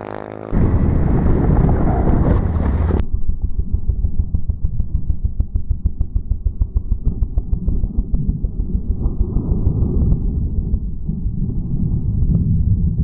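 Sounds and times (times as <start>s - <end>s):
rough vehicle engine noise: 0.0s - 11.2s
muffled fast low thumping: 0.6s - 13.0s.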